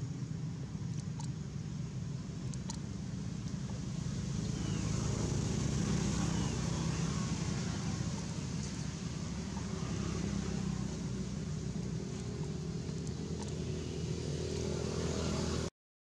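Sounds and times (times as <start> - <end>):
low outdoor rumble: 0.0 - 15.7.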